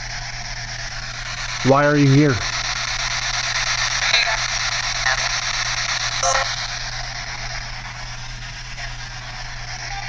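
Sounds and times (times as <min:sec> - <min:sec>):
clipped radio fragments: 0:00.0 - 0:10.0
low steady hum: 0:00.0 - 0:10.0
static hiss: 0:00.0 - 0:10.0.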